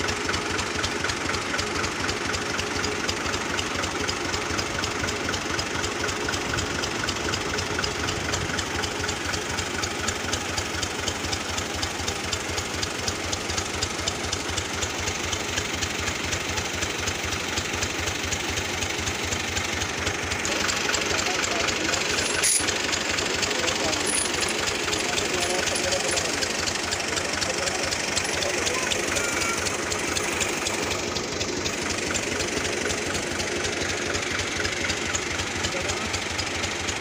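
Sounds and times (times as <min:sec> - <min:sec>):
diesel engine idling with knocking: 0:00.0 - 0:37.0.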